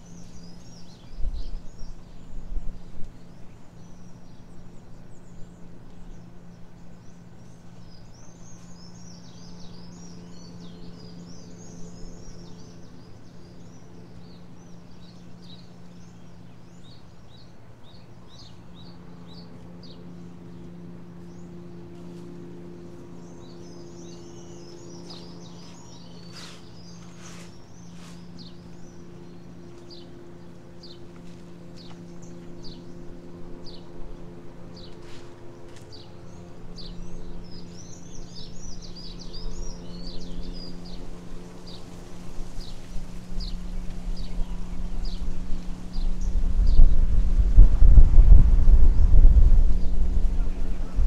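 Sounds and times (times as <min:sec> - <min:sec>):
songbirds chirping: 0:00.0 - 0:51.0
steady low hum: 0:00.0 - 0:51.0.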